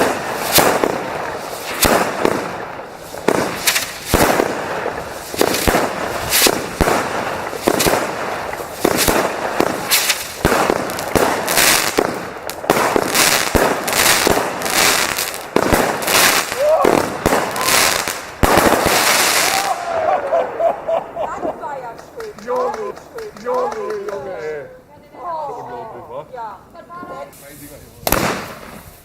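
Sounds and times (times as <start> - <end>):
fireworks banging: 0.0 - 24.8, 26.5 - 29.0
fireworks crackling: 0.0 - 29.0.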